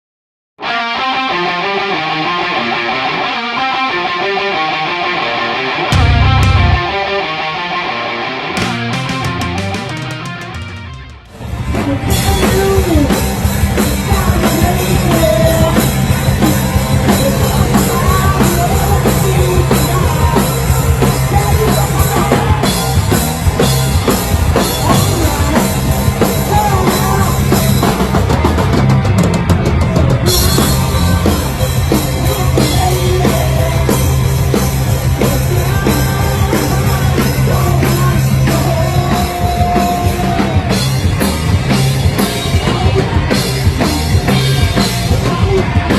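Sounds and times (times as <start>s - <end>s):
bass guitar: 0.6s - 45.9s
distorted electric guitar: 0.6s - 45.9s
rock band playing loud: 0.6s - 45.9s
drum kit: 5.9s - 45.9s.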